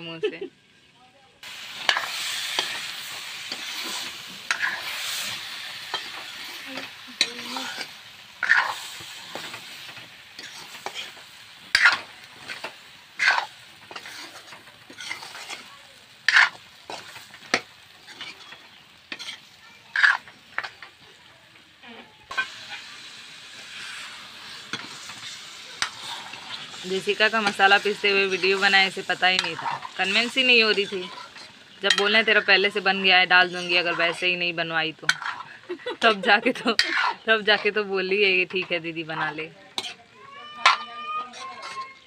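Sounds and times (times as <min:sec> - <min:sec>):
frying hiss: 0:00.0 - 0:42.0
metal ladle scraping a pan: 0:01.4 - 0:20.9, 0:22.3 - 0:42.0.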